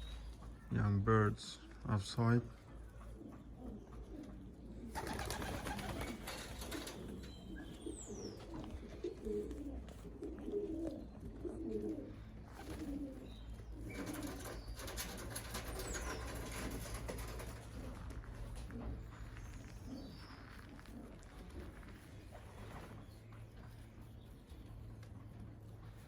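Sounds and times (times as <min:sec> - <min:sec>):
pigeons cooing: 0:02.5 - 0:25.7.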